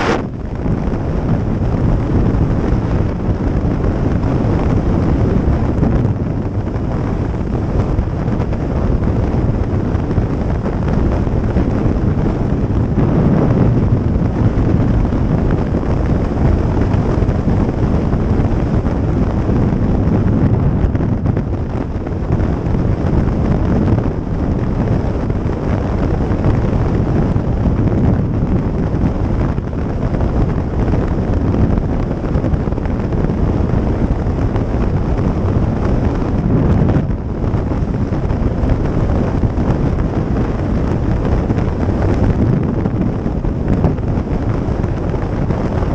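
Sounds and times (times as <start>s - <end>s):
motorcycle running: 0.0s - 45.9s
road noise: 0.0s - 45.9s
wind rushing on microphone: 0.0s - 45.9s.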